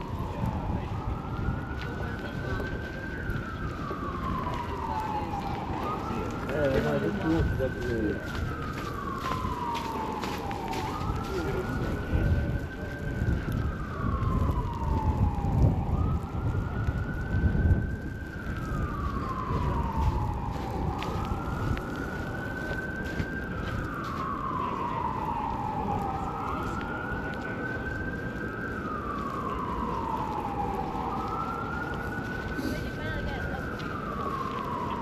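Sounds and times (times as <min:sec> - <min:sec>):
emergency vehicle siren wailing: 0:00.0 - 0:35.0.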